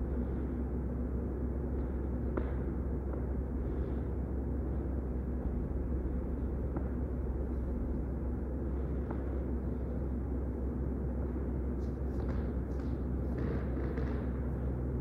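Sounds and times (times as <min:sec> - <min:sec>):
low room rumble and hum: 0:00.0 - 0:15.0.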